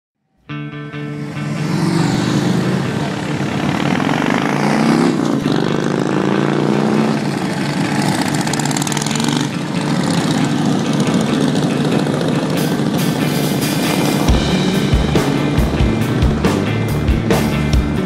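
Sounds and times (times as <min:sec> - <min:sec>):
motorcycle engines passing: 0:00.7 - 0:18.0.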